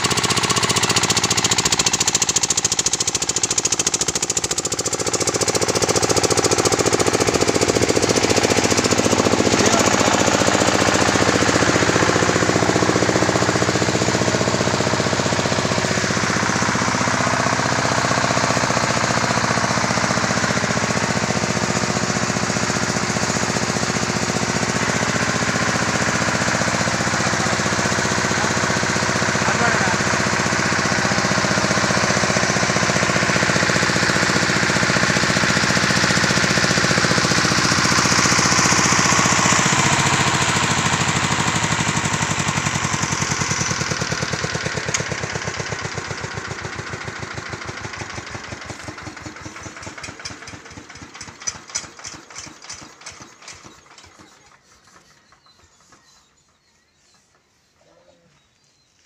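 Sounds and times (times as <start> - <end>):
air compressor running: 0.0 - 56.5.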